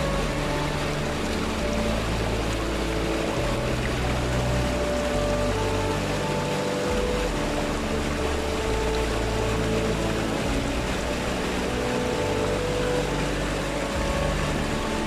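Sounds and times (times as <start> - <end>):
music of held low notes: 0.0 - 15.0
stream water rushing over rocks: 0.0 - 15.0.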